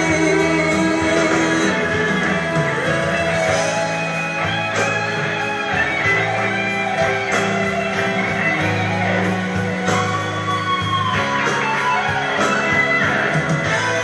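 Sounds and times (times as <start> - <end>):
bass: 0.0 - 14.0
guitar: 0.0 - 14.0
held chords: 0.0 - 14.0.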